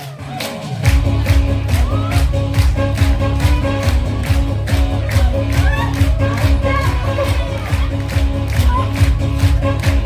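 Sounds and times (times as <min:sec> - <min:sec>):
heavy bass and drum beat: 0:00.0 - 0:10.0.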